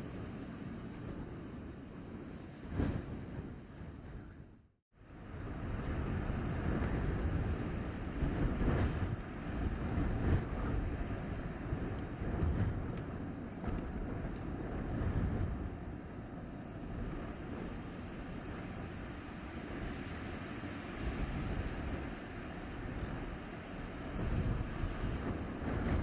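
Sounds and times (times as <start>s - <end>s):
gusting blizzard wind: 0.0s - 26.0s.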